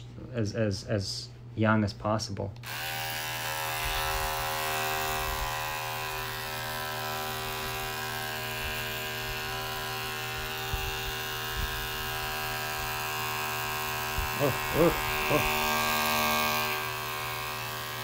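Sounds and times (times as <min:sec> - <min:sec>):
electric pet clipper humming: 0:02.6 - 0:18.0.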